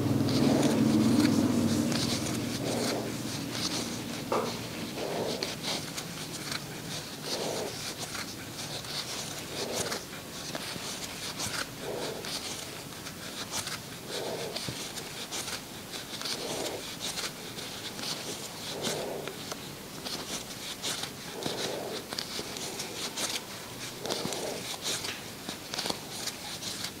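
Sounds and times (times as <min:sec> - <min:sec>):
yarn rasping on crochet hook: 0:00.0 - 0:27.0.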